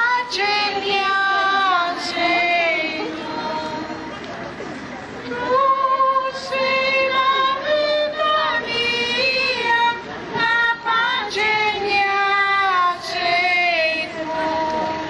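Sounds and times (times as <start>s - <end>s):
women and girls singing a hymn: 0.0s - 4.2s, 5.2s - 15.0s.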